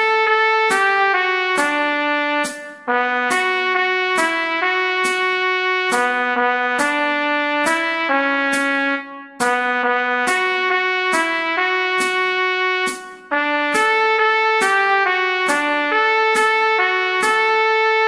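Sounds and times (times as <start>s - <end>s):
trumpet playing a melody: 0.0s - 18.0s.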